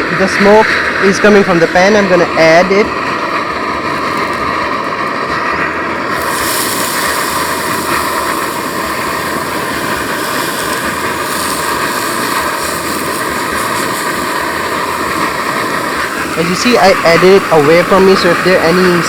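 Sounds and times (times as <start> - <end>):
stove burner running: 0.0 - 19.0
steak sizzling in hot oil: 2.9 - 19.0.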